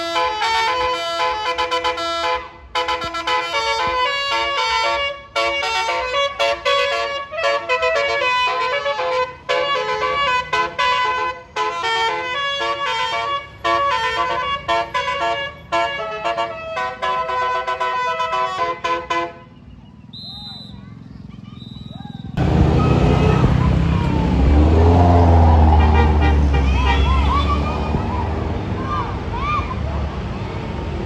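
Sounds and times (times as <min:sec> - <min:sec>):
bus horn playing melody: 0:00.0 - 0:19.6, 0:22.4 - 0:28.1.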